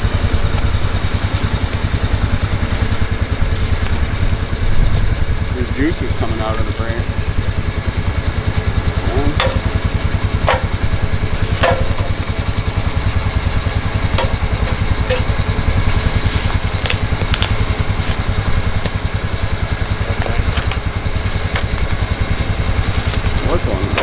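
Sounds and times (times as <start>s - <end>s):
utility vehicle engine idling: 0.0s - 24.0s.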